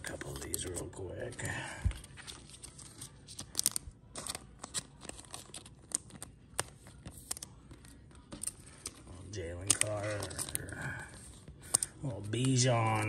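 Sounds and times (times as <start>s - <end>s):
plastic card sleeves crinkling: 0.0s - 13.0s.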